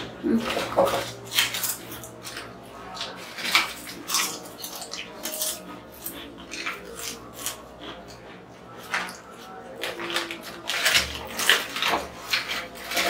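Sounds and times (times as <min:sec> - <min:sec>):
chips rustling in bowls: 0:00.0 - 0:13.0
people crunching potato chips: 0:00.0 - 0:13.0.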